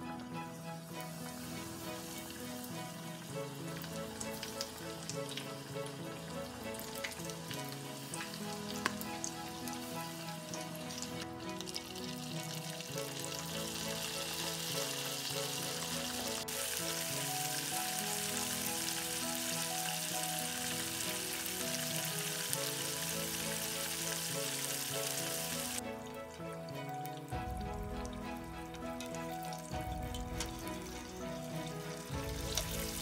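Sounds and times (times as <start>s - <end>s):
background music: 0.0s - 33.0s
chicken deep-frying in oil: 0.6s - 33.0s.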